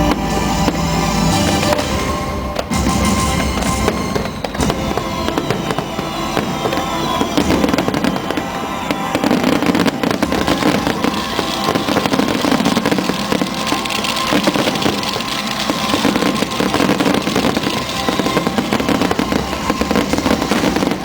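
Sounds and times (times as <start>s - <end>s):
fireworks bursting and crackling: 0.0s - 21.0s
show music: 0.0s - 21.0s.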